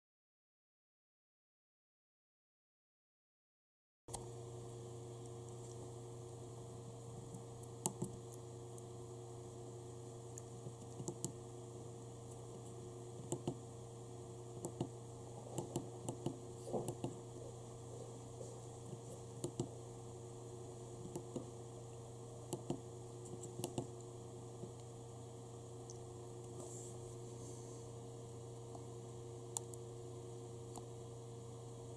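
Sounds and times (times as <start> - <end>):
steady electrical hum: 4.1 - 31.9.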